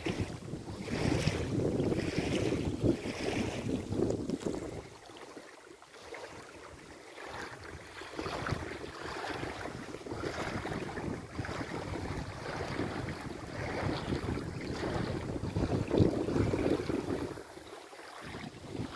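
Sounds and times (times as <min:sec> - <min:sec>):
gusty wind buffeting microphone: 0:00.0 - 0:05.0, 0:07.6 - 0:17.5, 0:18.2 - 0:18.9.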